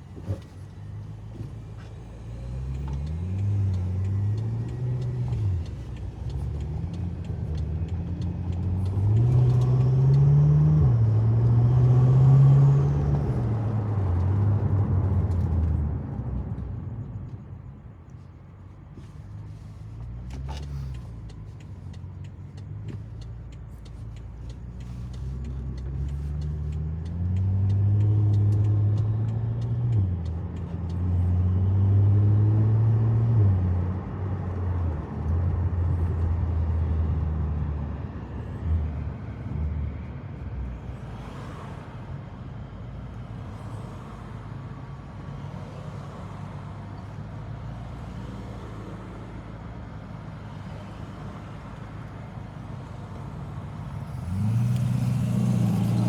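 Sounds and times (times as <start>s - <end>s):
car engine accelerating: 0.0s - 41.8s, 47.0s - 56.0s.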